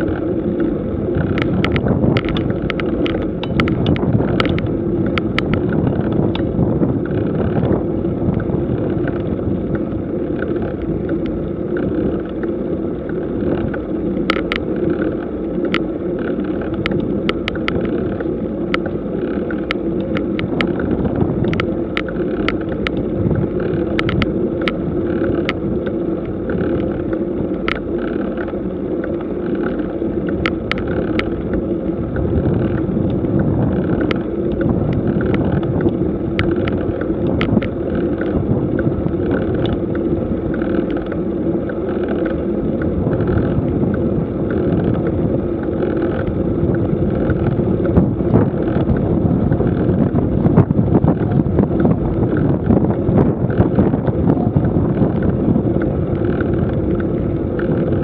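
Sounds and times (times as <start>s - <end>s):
bicycle ride noise on asphalt: 0.0s - 58.0s
bike clicks and rattles: 0.0s - 58.0s.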